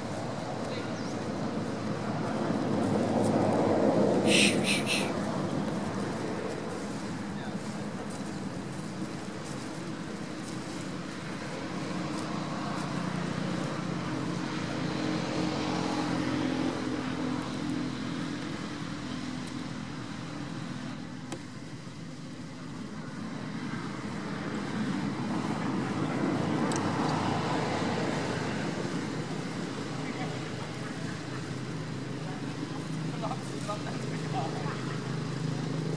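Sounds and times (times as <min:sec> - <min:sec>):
road traffic engine hum: 0:00.0 - 0:35.9.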